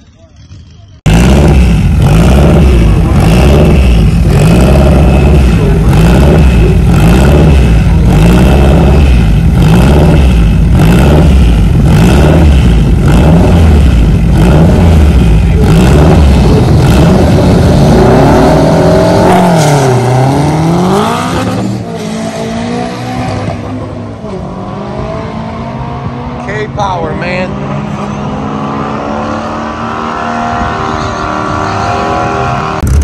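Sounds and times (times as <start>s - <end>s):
car engine at high revs: 0.6s - 33.0s.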